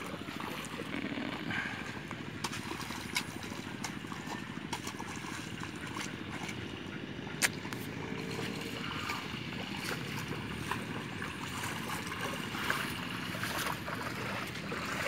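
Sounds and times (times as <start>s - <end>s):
feet wading through muddy water: 0.0s - 15.0s.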